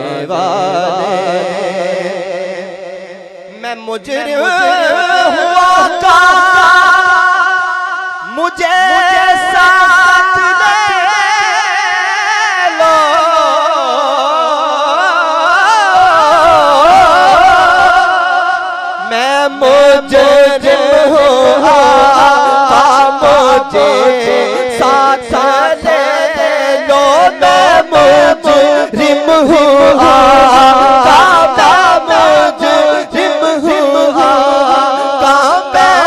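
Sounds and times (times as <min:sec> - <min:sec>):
man singing into a microphone: 0:00.0 - 0:36.0.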